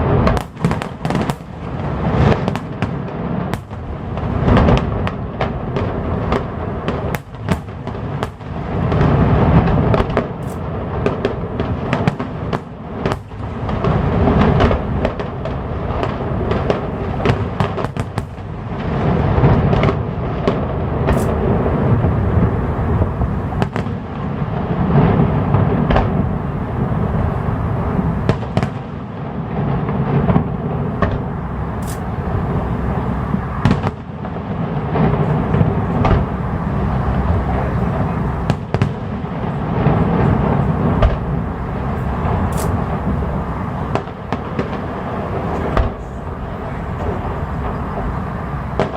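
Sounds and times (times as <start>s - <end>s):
firework shells booming: 0.0s - 48.9s
sharp firework cracks: 0.0s - 48.9s.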